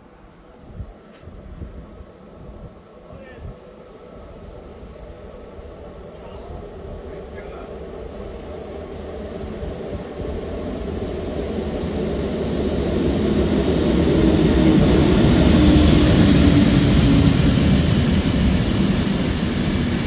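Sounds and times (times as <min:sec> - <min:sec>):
train pulling into station: 0:00.0 - 0:20.0.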